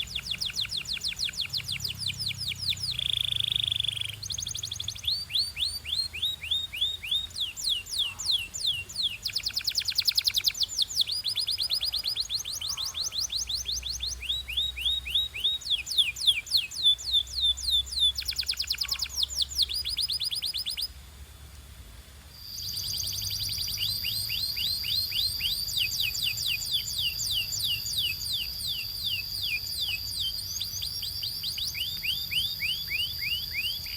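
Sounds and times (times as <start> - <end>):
canary singing trills: 0.0 - 21.0, 22.4 - 33.9.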